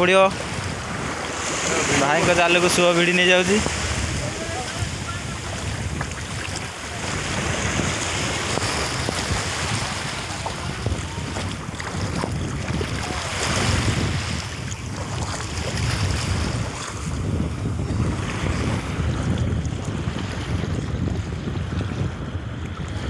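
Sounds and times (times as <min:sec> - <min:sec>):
small waves washing ashore: 0:00.0 - 0:23.0
wind buffeting microphone: 0:00.0 - 0:23.0.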